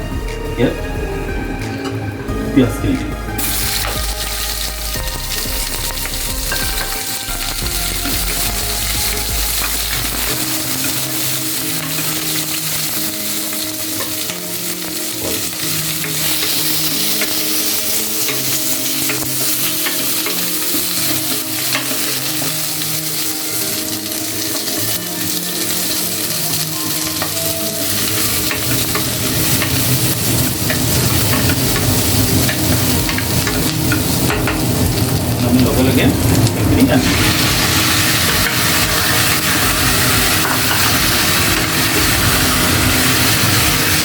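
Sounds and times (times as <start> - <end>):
onions sizzling in oil: 3.4 - 44.0.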